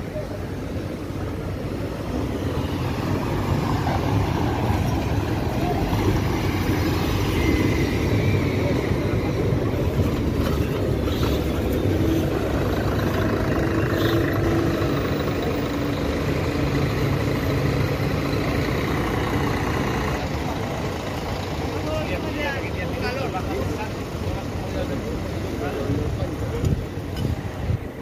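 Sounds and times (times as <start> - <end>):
bus engine rumble: 0.0 - 28.0
street traffic: 0.0 - 28.0.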